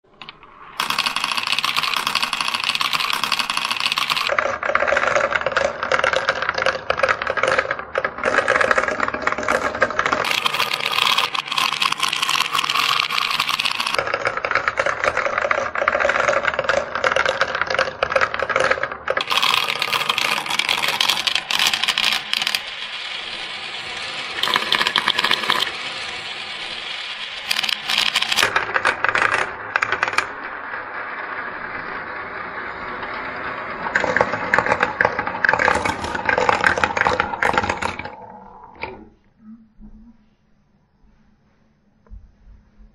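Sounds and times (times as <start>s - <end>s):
marbles rattling down plastic run: 0.6s - 38.3s.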